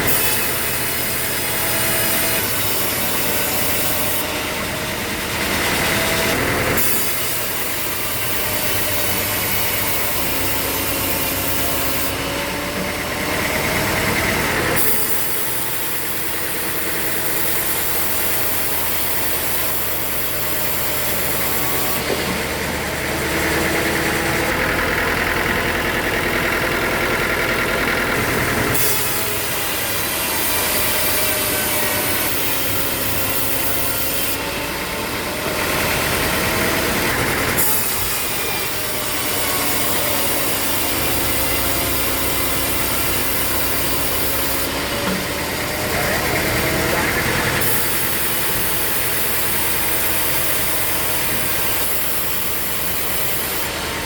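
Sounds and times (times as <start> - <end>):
saw cutting wood: 0.0 - 54.0
sawmill engine running: 0.0 - 54.0.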